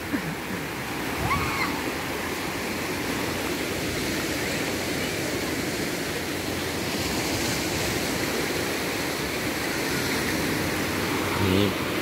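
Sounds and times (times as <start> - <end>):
waves washing on sandy shore: 0.0 - 12.0.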